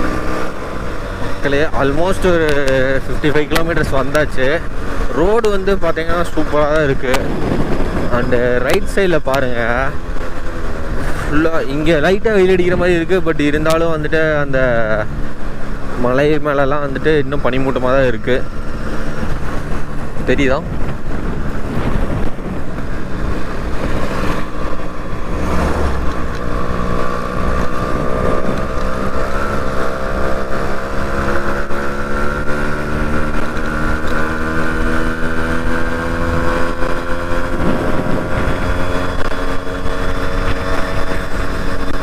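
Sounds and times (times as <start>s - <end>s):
wind rumble on microphone: 0.0s - 14.0s, 16.9s - 42.0s
motorcycle engine running: 0.0s - 42.0s.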